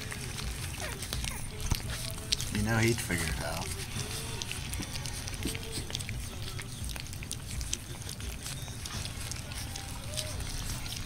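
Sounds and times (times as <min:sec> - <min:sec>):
puppies chewing food: 0:00.0 - 0:11.0
puppies whimpering: 0:00.0 - 0:11.0.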